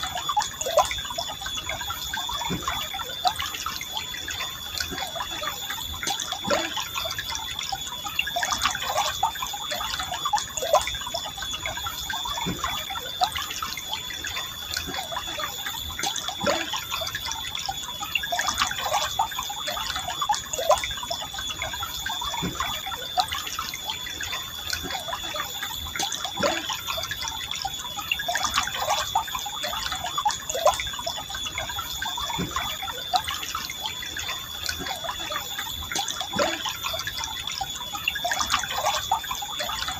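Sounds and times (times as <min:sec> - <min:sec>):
steady high-pitched tone: 0:00.0 - 0:39.9
stream flowing and gurgling: 0:00.0 - 0:39.9.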